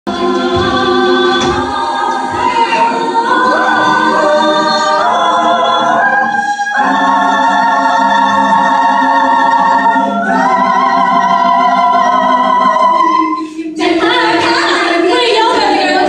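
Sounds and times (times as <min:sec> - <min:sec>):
a cappella group singing: 0:00.1 - 0:16.0.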